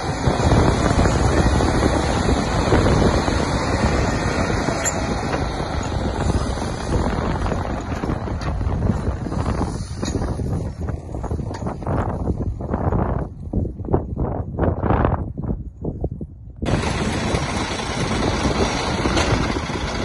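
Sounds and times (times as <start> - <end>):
diesel engine under load: 0.0 - 13.0, 16.6 - 20.0
wind buffeting microphone: 0.0 - 20.0.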